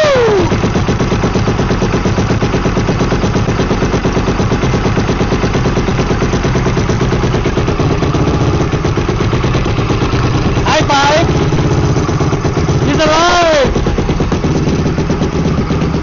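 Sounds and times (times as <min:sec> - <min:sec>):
engine running on choke: 0:00.0 - 0:16.0.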